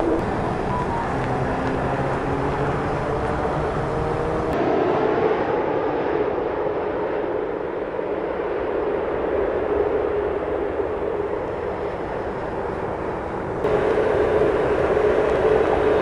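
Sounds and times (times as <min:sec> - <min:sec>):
jet engine noise: 0:00.0 - 0:16.0
jet plane passing low: 0:00.0 - 0:16.0.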